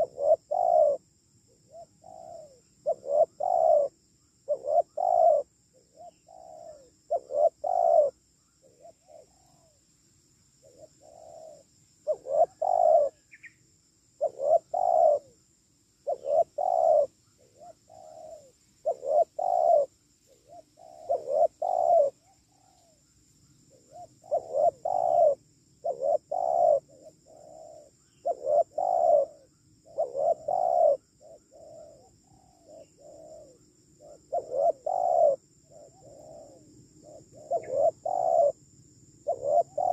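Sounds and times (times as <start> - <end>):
dove cooing: 0.0 - 9.8, 10.6 - 13.5, 14.2 - 15.4, 16.0 - 23.0, 23.7 - 39.9.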